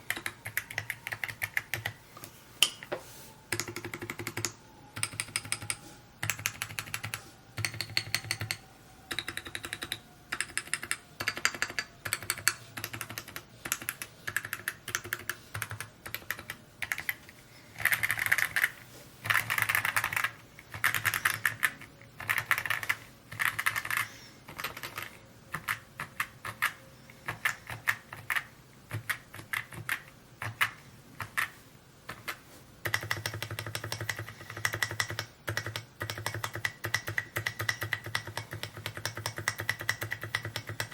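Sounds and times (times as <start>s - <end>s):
mechanical keyboard typing: 0.1s - 2.0s, 3.5s - 40.9s.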